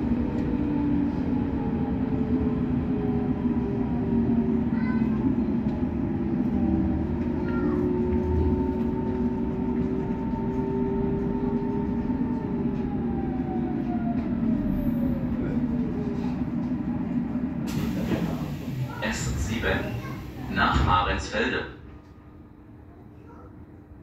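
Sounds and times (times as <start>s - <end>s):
train car rumble: 0.0s - 23.9s.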